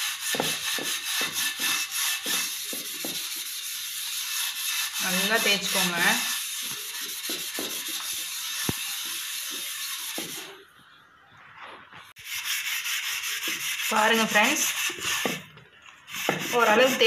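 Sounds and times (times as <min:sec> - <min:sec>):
scrubbing a griddle by hand: 0:00.0 - 0:10.6, 0:12.1 - 0:17.0.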